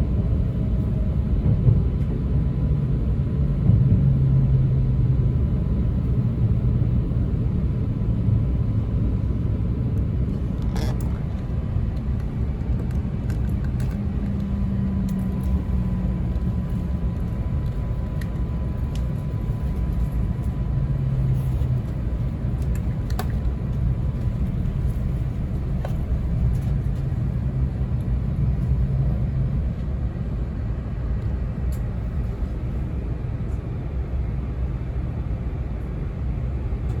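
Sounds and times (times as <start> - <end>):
train interior rumble: 0.0 - 37.0.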